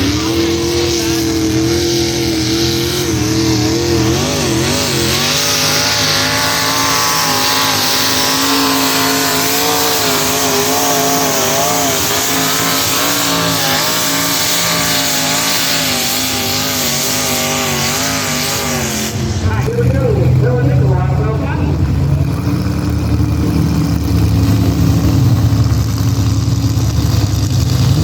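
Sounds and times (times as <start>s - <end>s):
engine roaring at high revs: 0.0s - 28.0s.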